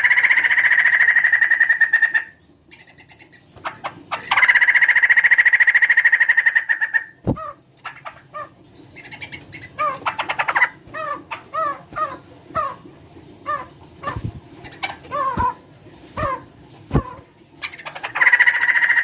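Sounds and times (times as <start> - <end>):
bird chattering notes: 0.0 - 12.8, 16.2 - 19.0.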